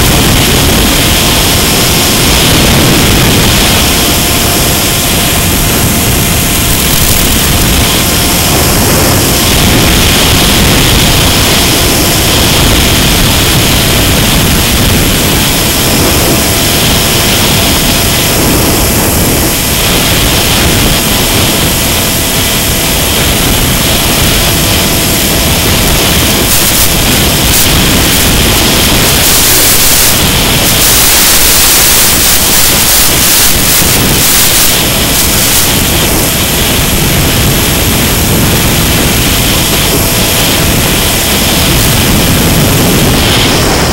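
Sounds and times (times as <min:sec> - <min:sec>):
faint steady whine: 0:00.0 - 0:43.9
rushing hiss of wind and static: 0:00.0 - 0:43.9.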